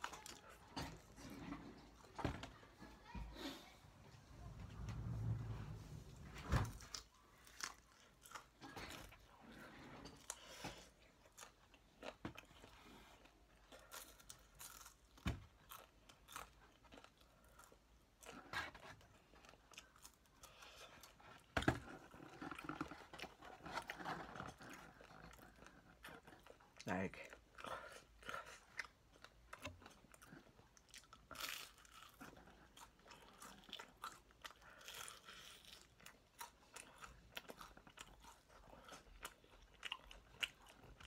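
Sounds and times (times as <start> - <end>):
chewing crispy fried chicken: 0.0 - 1.9, 6.8 - 41.0.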